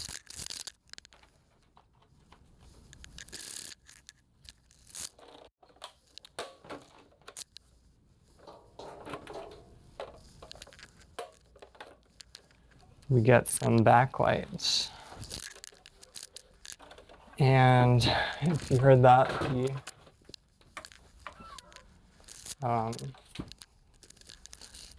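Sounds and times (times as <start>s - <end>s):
handling clicks and scrapes: 0.0s - 24.9s.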